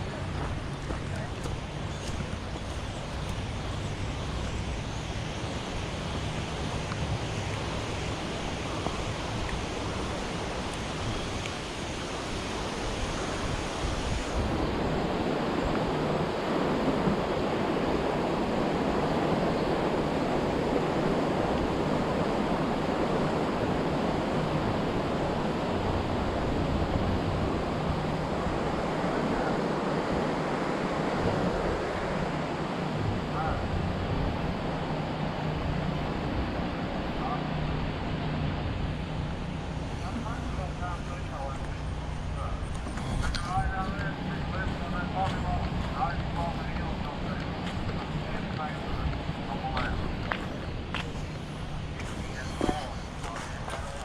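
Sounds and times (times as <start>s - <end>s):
river water roaring: 0.0s - 54.0s.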